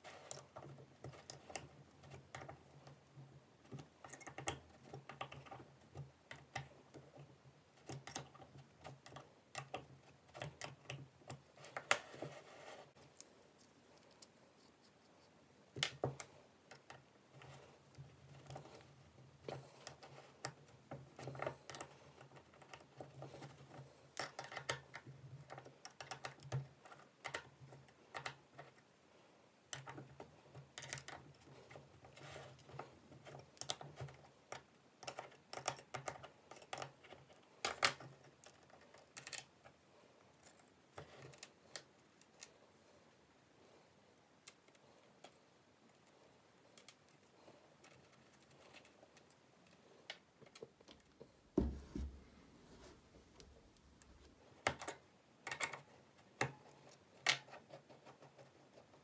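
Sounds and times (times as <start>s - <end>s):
small metallic clicks and scrapes: 0.0s - 15.0s, 15.7s - 28.9s, 29.7s - 42.7s, 44.1s - 51.3s.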